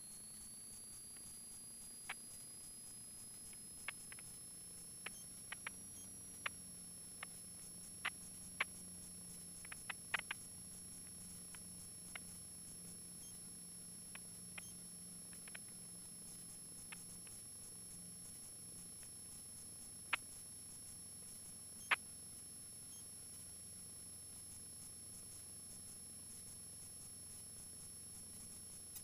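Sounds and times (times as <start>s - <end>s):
thin high whine: 0.0s - 29.0s.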